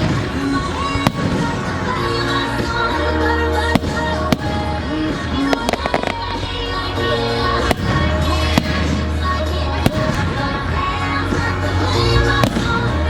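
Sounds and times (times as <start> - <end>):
fireworks bangs: 0.0 - 13.0
fireworks crackling: 0.0 - 13.0
loud show music: 0.0 - 13.0.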